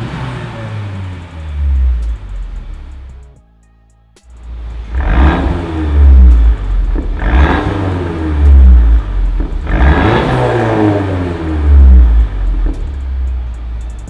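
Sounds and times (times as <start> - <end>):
car engine revving: 0.0 - 3.3, 4.4 - 14.0.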